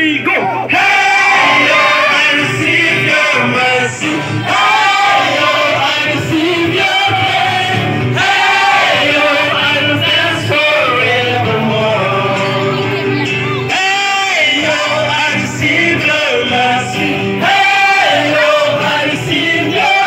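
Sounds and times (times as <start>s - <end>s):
loud music: 0.1s - 20.0s
crowd singing together: 0.7s - 20.0s.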